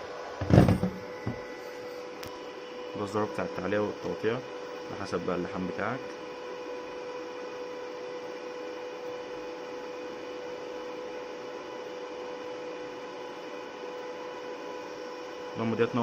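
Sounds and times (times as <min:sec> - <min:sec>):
welding machine fan humming: 0:00.0 - 0:16.0.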